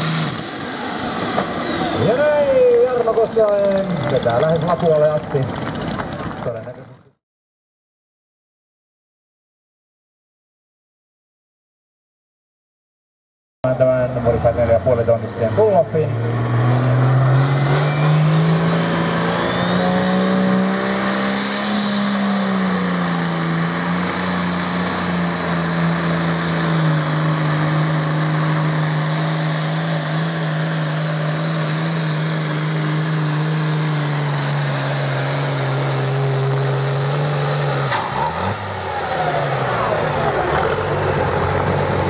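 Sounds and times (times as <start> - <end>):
diesel engine under heavy load: 0.0 - 7.2, 13.7 - 42.0.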